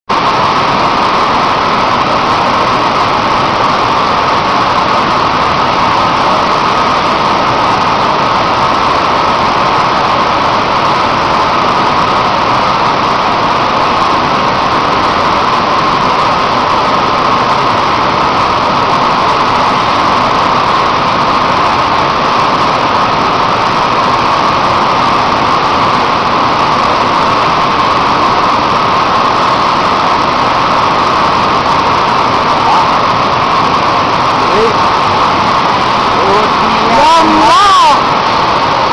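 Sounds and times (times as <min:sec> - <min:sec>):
industrial machinery roar: 0:00.1 - 0:38.9.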